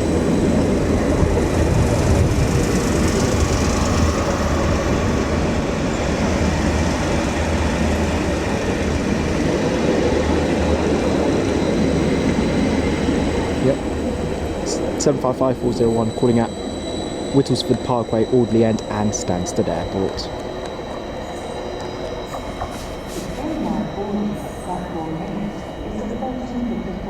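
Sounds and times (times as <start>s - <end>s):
train hum: 0.0s - 27.0s
faint high steady tones: 3.2s - 27.0s.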